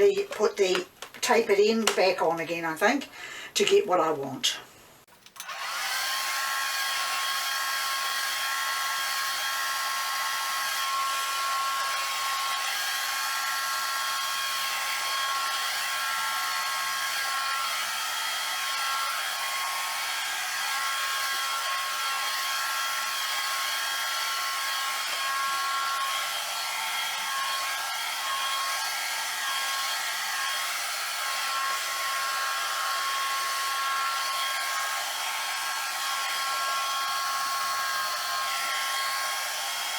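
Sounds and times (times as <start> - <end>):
hair dryer blowing: 5.4 - 39.9.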